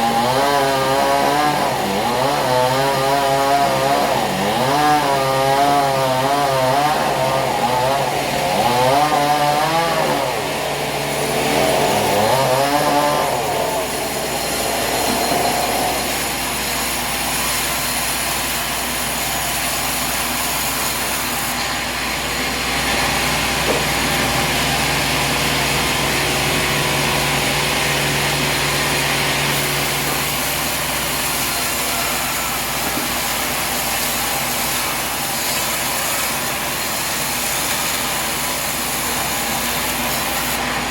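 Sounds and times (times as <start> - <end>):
sawmill saw cutting log: 0.0 - 40.9.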